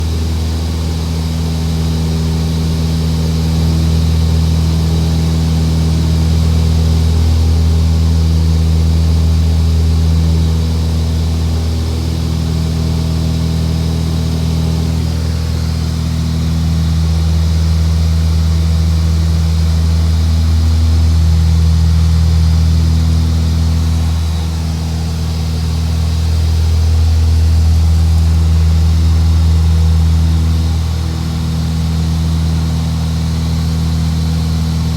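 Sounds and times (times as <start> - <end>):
aircraft engine drone: 0.0 - 34.9.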